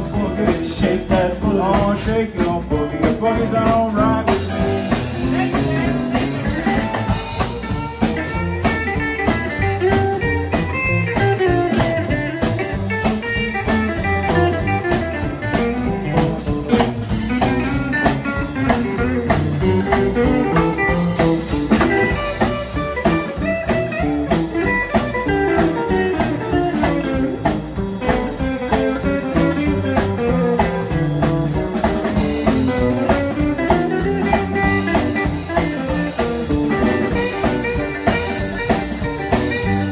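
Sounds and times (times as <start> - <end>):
drum kit: 0.0 - 39.9
electric guitars: 0.0 - 39.9
upright bass: 0.0 - 39.9.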